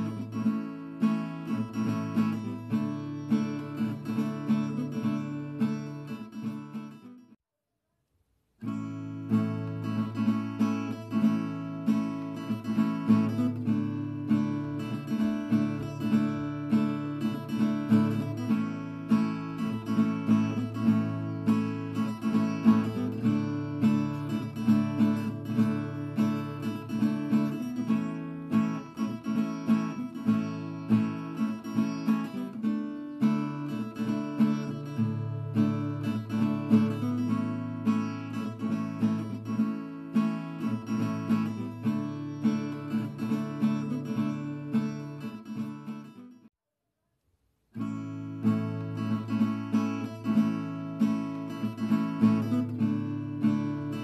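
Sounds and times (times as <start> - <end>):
strummed acoustic guitar music: 0.0 - 7.4, 8.6 - 46.5, 47.7 - 54.0.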